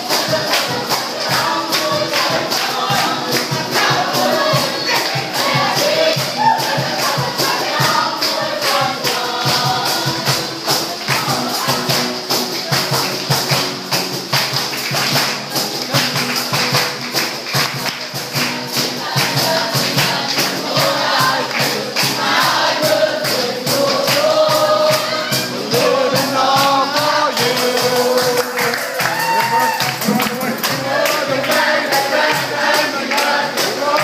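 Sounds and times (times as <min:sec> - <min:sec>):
group of voices singing: 0:00.0 - 0:13.6, 0:15.2 - 0:34.0
jingling percussion: 0:00.0 - 0:34.0
upbeat worship music: 0:00.0 - 0:34.0.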